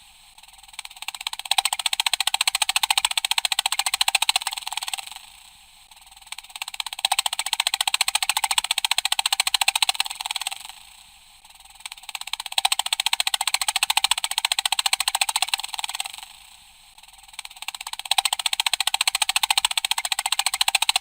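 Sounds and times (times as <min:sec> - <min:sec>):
rapid keyboard typing: 0:00.5 - 0:05.2, 0:06.2 - 0:10.8, 0:11.5 - 0:16.3, 0:17.0 - 0:21.0.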